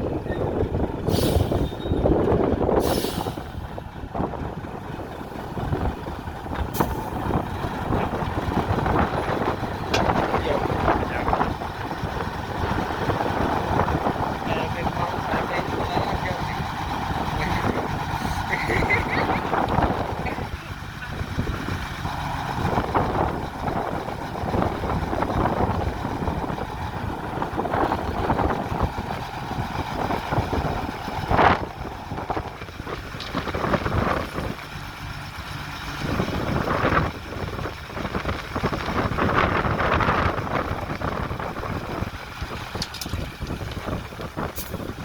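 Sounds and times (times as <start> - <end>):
diesel construction machinery running: 0.0 - 45.0
wind buffeting microphone: 0.0 - 45.0.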